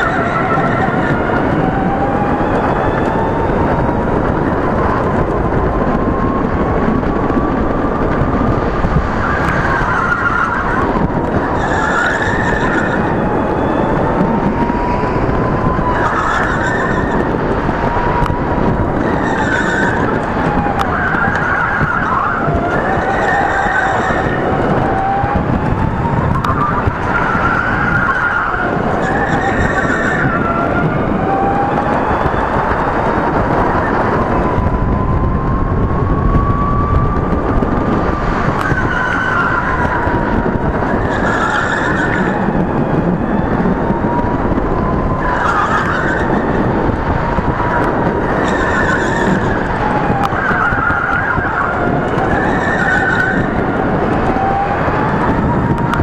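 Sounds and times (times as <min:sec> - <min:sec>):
chassis and track rumble: 0:00.0 - 0:56.0.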